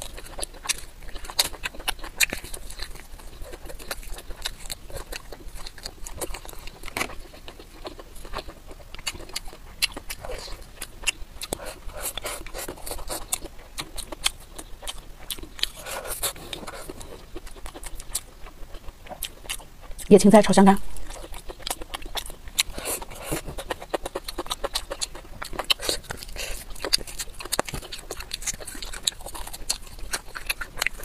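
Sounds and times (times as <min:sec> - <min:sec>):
person chewing crunchy food: 0:00.0 - 0:31.0.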